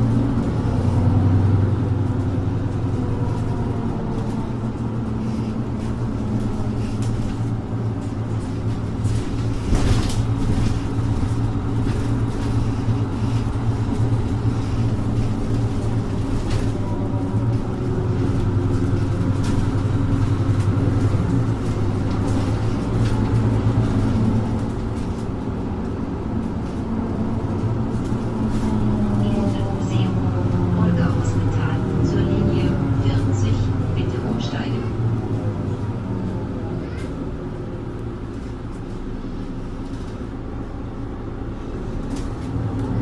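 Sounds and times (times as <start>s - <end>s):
bus diesel engine drone: 0.0s - 43.0s.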